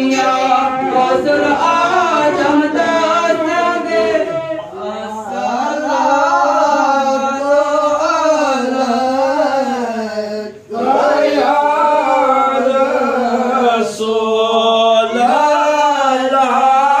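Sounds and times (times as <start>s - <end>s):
men chanting a devotional song: 0.0s - 17.0s.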